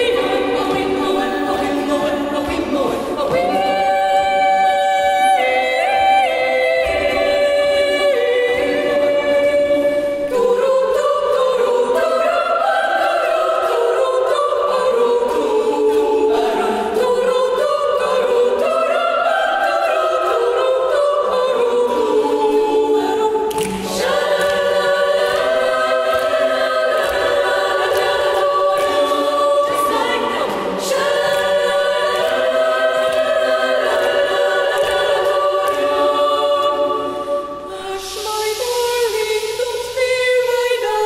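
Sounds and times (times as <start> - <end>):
girls choir singing a cappella: 0.0 - 41.0.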